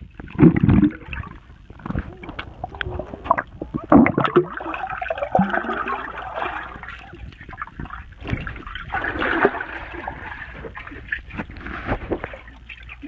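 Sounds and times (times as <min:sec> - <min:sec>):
dull knocks underwater: 0:00.0 - 0:12.7
underwater bubbling and sloshing: 0:00.0 - 0:13.0.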